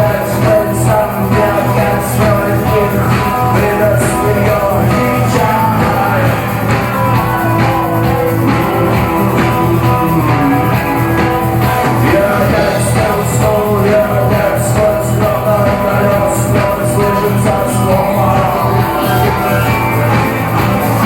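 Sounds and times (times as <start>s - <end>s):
person singing: 0.0s - 21.0s
rock band playing: 0.0s - 21.0s.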